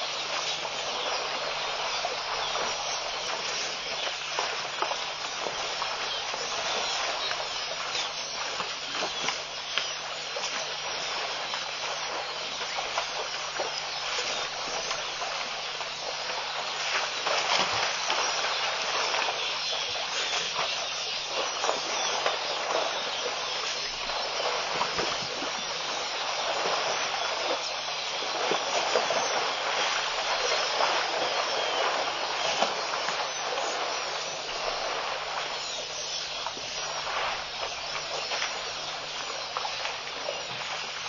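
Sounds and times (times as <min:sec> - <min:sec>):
outdoor hiss with faint crackling: 0:00.0 - 0:41.0.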